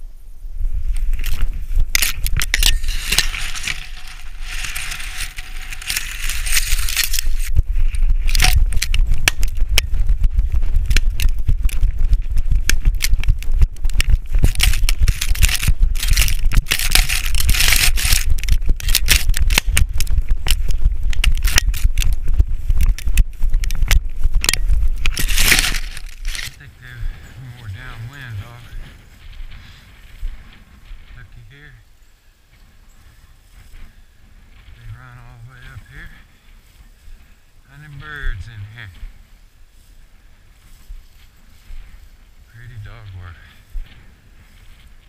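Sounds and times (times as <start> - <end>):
dry brush crackling against camera: 0.0 - 45.0
wind rumble: 0.0 - 45.0.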